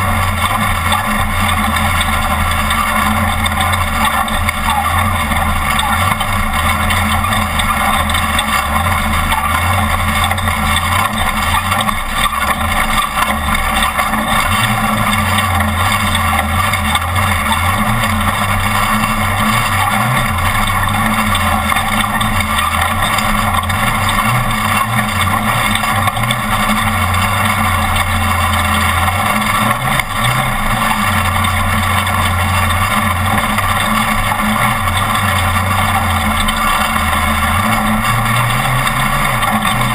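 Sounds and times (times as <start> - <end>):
race truck engine and running noise: 0.0 - 39.9.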